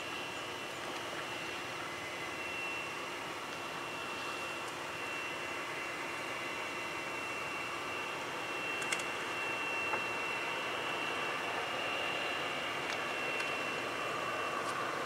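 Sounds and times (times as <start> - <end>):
high steady whine: 0.0 - 15.0
jet engines idling: 0.0 - 15.0.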